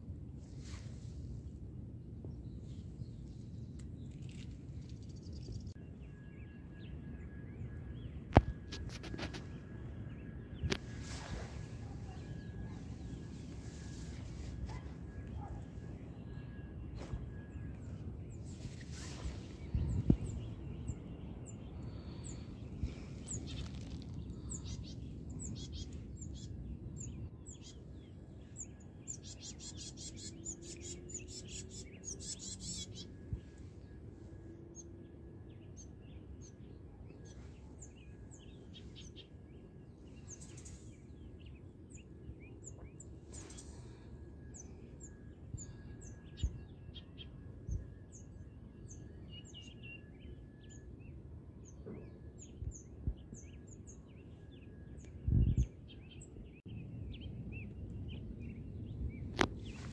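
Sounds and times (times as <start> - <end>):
birds chirping: 2.2 - 59.9.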